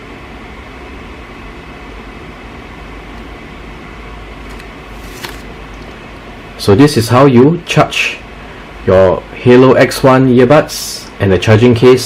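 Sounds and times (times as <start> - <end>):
background hiss with low hum: 0.0 - 12.0.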